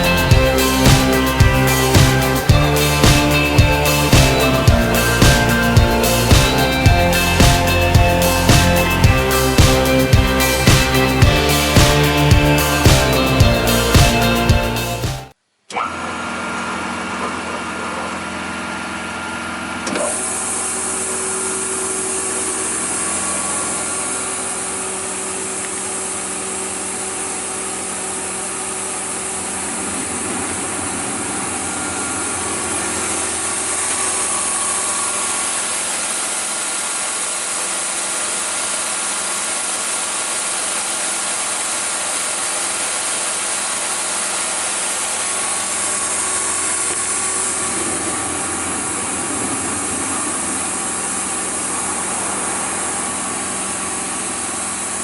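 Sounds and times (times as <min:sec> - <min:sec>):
panel saw running: 0:00.0 - 0:15.2, 0:15.8 - 0:55.0.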